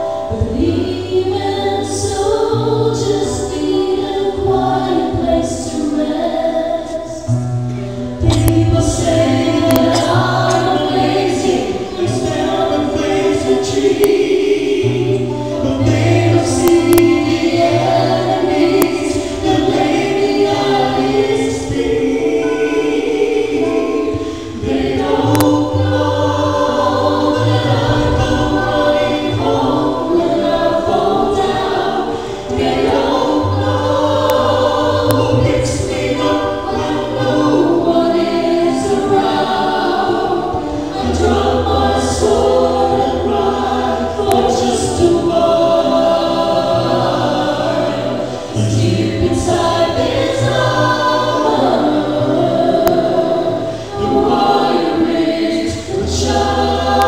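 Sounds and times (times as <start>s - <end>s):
group singing in harmony: 0.0s - 57.0s.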